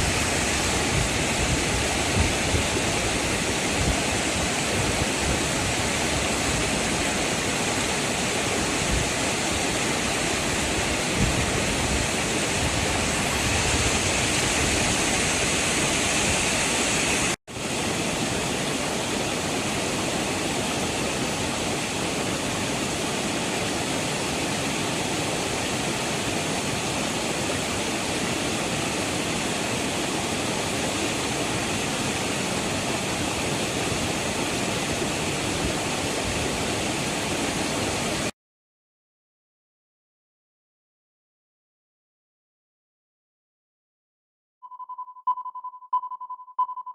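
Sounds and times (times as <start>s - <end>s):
waterfall roaring: 0.0s - 38.3s.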